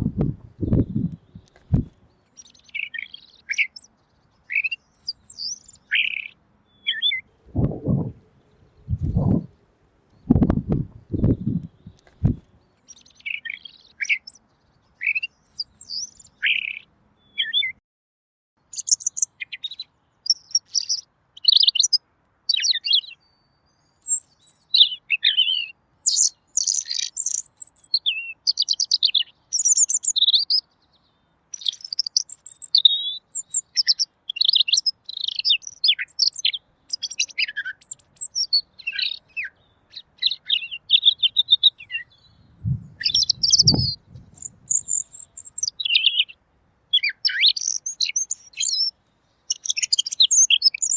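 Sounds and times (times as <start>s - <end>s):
bird warbling song: 0.0s - 17.8s, 18.6s - 50.9s.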